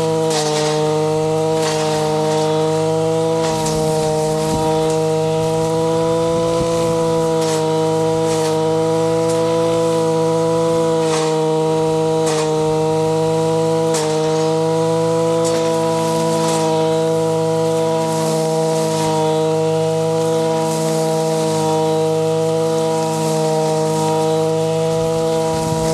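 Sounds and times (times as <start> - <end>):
brush cutter cutting grass: 0.0 - 25.9.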